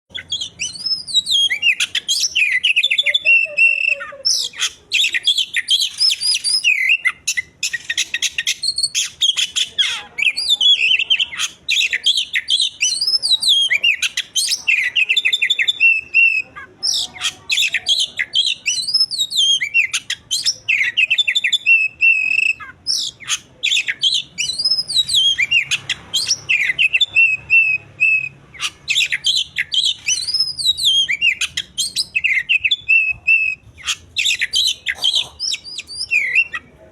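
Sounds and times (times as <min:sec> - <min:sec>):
songbird singing: 0:00.1 - 0:36.9.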